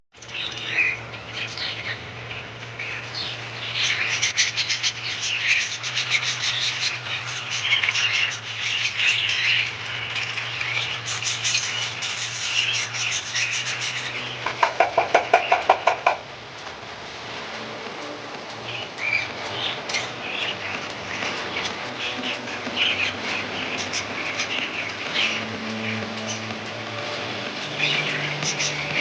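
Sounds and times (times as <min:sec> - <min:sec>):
budgerigars chattering: 0:00.2 - 0:16.2, 0:18.7 - 0:29.0
steady low hum: 0:00.2 - 0:29.0.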